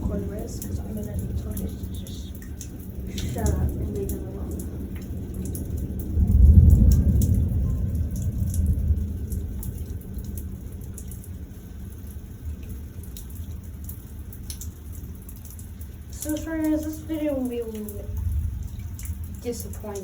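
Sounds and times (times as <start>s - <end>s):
thunder rumbling: 0.0s - 13.0s, 15.9s - 20.0s
rain pattering: 0.0s - 20.0s
raindrops ticking close by: 0.0s - 20.0s.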